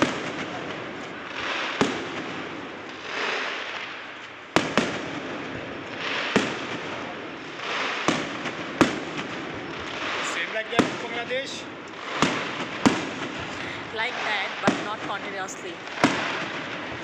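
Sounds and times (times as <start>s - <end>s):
fireworks banging: 0.0s - 17.0s
fireworks hissing: 0.0s - 17.0s.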